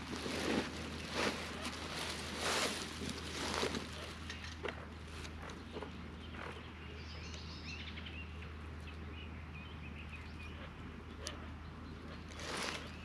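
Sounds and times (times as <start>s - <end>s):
low outdoor ambience hum: 0.0s - 13.0s.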